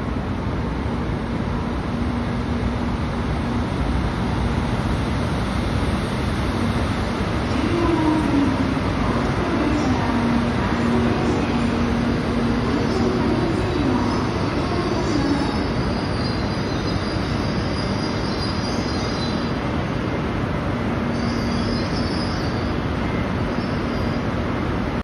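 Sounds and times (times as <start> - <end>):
low train whine: 0.0 - 25.0
train running rumble: 0.0 - 25.0.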